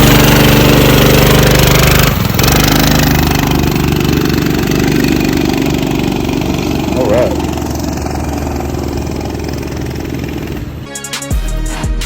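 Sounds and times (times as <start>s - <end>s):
mini bike engine running: 0.0s - 10.9s.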